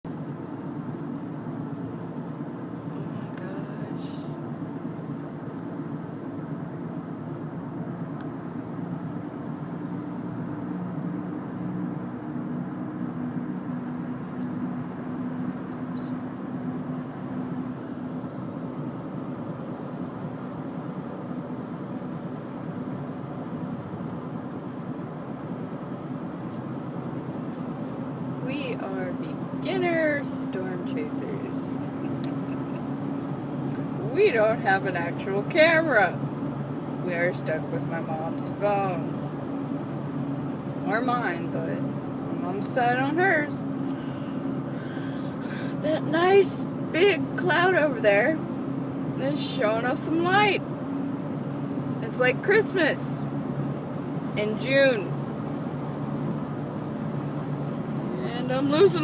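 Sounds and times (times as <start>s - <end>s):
car engine humming: 0.0s - 59.0s
road noise: 0.0s - 59.0s.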